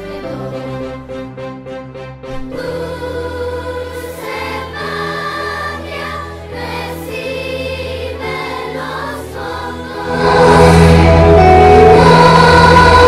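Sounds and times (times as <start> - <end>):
group of voices singing: 0.0 - 1.3, 2.4 - 13.0.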